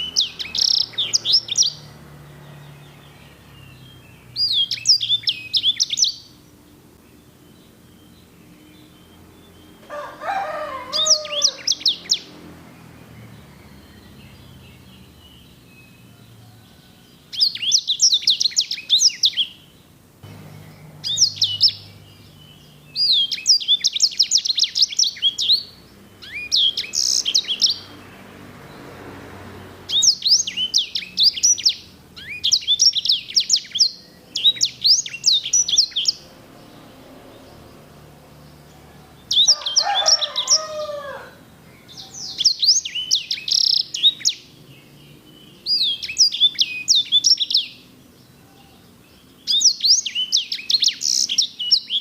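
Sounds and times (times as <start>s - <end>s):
finch singing trills: 0.0s - 28.1s, 29.5s - 52.0s.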